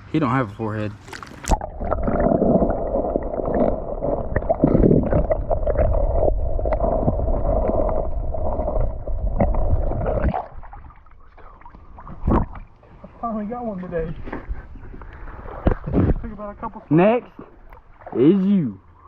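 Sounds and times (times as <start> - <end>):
water gurgling and sloshing: 0.0 - 19.0.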